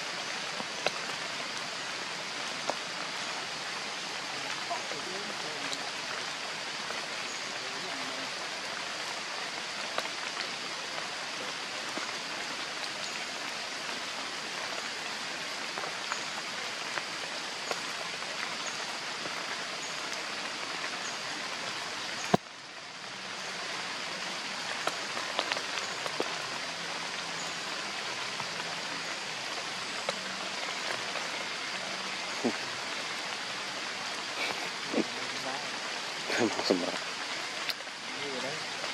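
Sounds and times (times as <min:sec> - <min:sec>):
rain hissing on leaves: 0:00.0 - 0:38.9
water dripping: 0:00.0 - 0:38.9.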